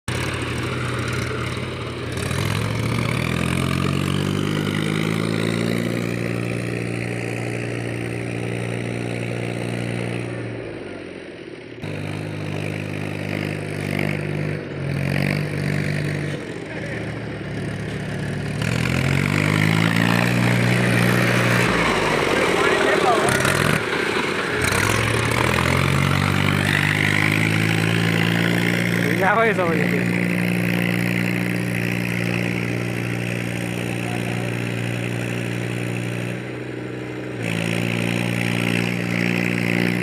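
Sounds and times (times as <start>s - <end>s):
tractor engine revving: 0.0s - 40.0s.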